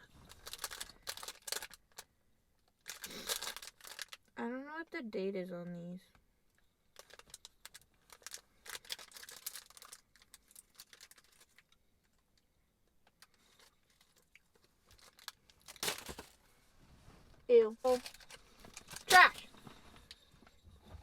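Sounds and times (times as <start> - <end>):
items crinkling when handled: 0.0 - 2.1, 2.7 - 4.4, 6.9 - 21.0.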